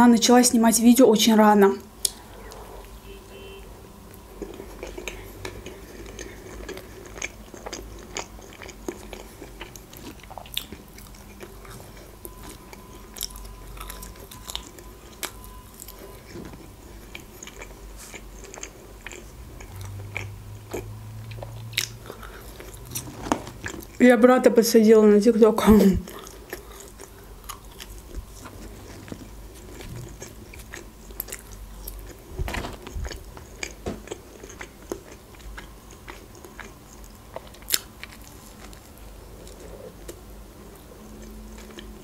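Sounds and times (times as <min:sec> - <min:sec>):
chewing and biting food: 0:04.3 - 0:24.0, 0:26.1 - 0:42.0.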